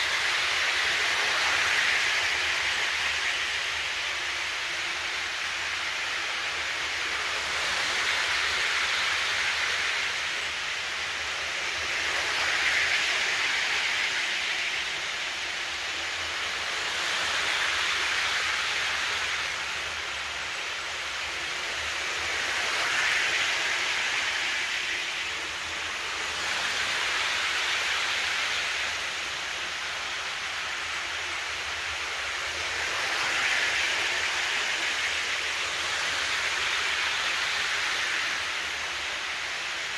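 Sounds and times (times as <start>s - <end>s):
model train wheels on rails: 0.0s - 39.9s.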